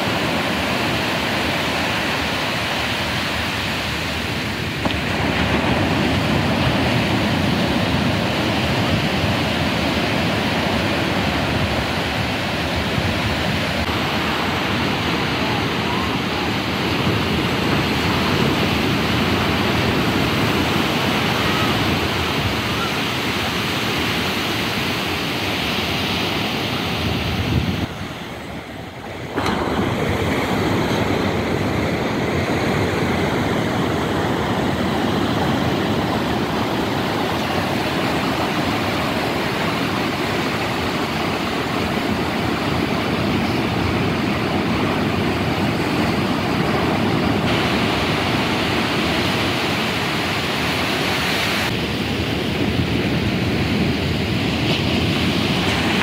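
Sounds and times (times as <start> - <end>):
sea waves washing up beach: 0.0 - 56.0.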